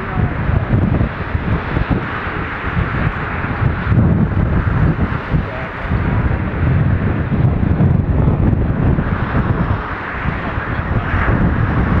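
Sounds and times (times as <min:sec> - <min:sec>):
jet engines roaring at takeoff: 0:00.0 - 0:12.0.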